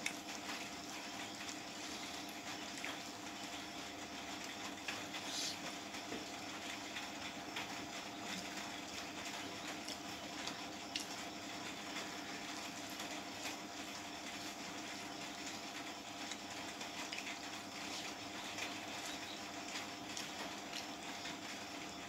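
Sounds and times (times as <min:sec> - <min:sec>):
wet chewing and mixing sounds: 0:00.0 - 0:21.8.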